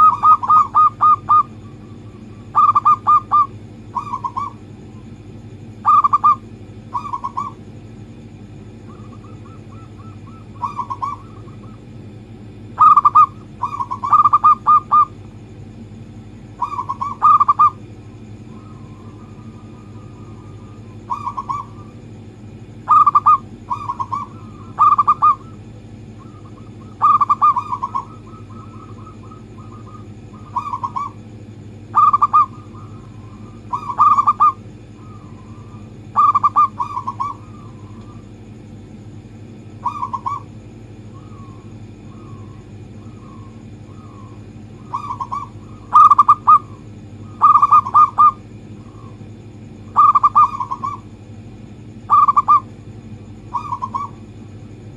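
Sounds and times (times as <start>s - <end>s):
dove cooing: 0.0s - 15.2s, 16.4s - 38.6s, 39.5s - 54.4s
steady low hum: 0.0s - 54.9s.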